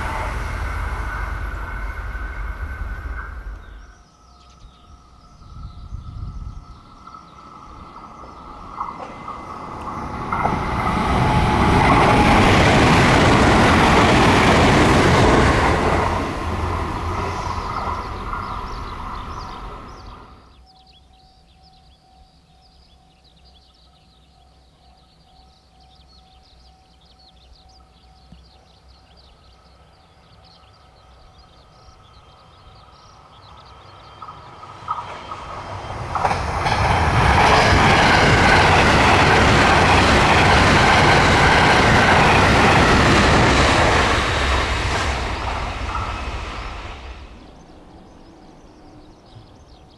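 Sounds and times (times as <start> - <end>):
electric train passing: 0.0 - 20.9, 29.6 - 49.9.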